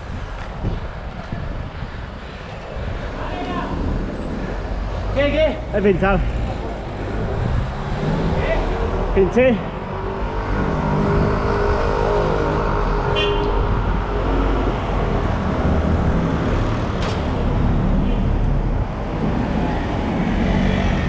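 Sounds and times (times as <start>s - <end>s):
wind rumble on microphone: 0.0s - 5.2s, 6.7s - 9.2s, 10.0s - 21.0s
street traffic: 0.0s - 21.0s.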